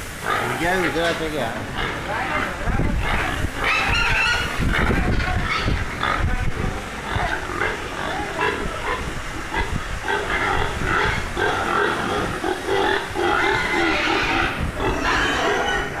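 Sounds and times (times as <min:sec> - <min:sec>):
pigs squealing: 0:00.2 - 0:16.0.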